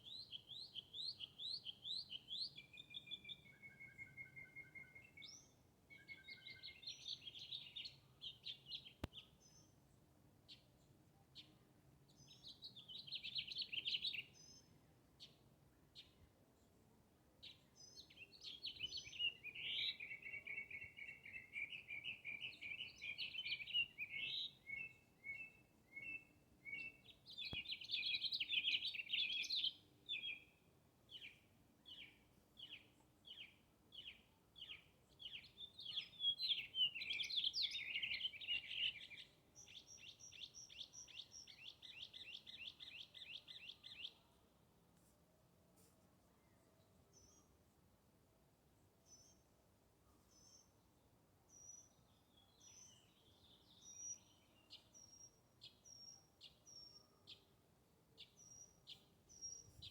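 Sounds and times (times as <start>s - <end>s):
songbird singing: 0.0s - 44.7s, 46.2s - 59.9s.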